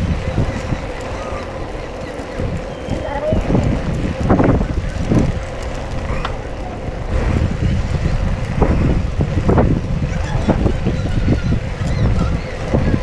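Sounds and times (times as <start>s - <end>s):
voices: 0.0s - 13.0s
wind rumbling on microphone: 0.0s - 13.0s.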